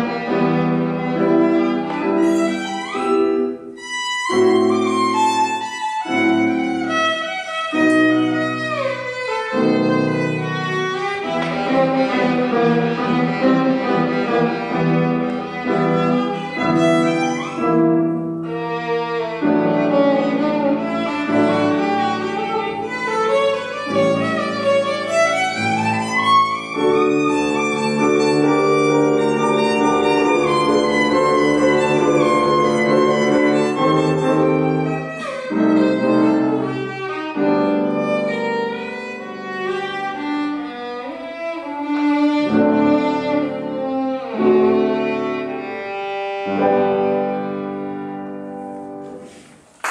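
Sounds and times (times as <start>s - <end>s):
piano chords: 0.0s - 49.9s
violin: 0.0s - 49.9s.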